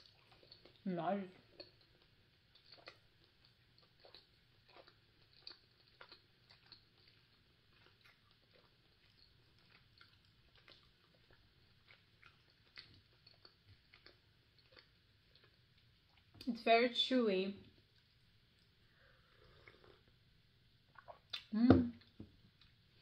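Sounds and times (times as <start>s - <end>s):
faint wet chewing clicks: 0.0s - 16.6s, 17.6s - 20.2s, 20.9s - 23.0s.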